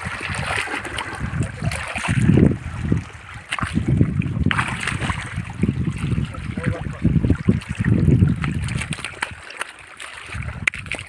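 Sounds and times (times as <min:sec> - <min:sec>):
wind gusting on microphone: 0:00.0 - 0:09.4, 0:10.3 - 0:11.0
water splashing and running: 0:00.0 - 0:11.0.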